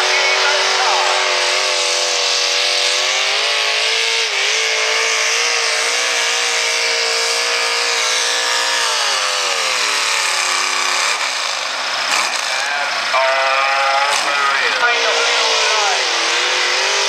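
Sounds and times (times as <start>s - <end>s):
engine revving high: 0.0s - 17.0s.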